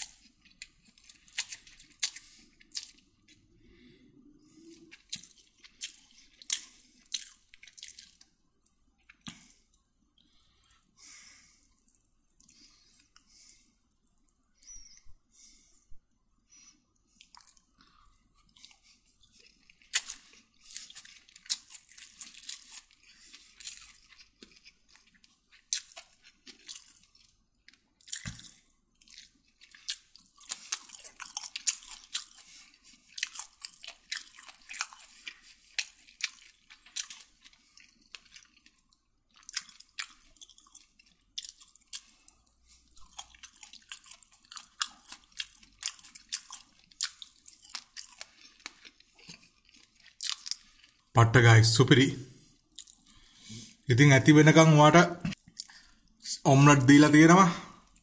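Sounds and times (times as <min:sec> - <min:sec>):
person chewing food: 0:00.0 - 0:51.1, 0:52.2 - 0:53.9, 0:55.2 - 0:56.3, 0:57.6 - 0:58.0.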